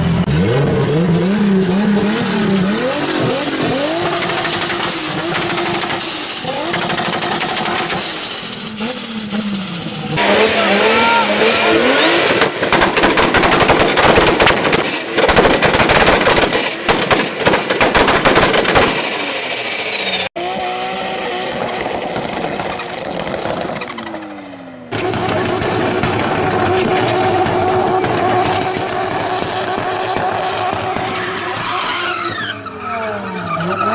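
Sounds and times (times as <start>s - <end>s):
car engines revving: 0.0s - 17.7s, 18.5s - 33.9s.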